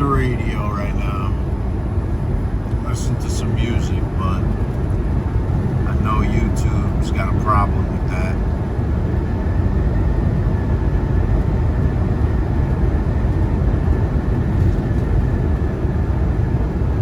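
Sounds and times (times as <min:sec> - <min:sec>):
faint steady whine: 0:00.0 - 0:17.0
road noise: 0:00.0 - 0:17.0
truck diesel engine droning: 0:00.0 - 0:17.0.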